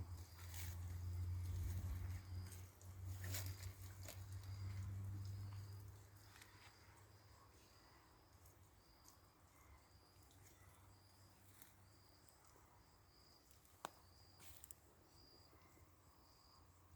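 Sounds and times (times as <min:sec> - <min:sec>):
cricket chirping: 0:00.0 - 0:16.9.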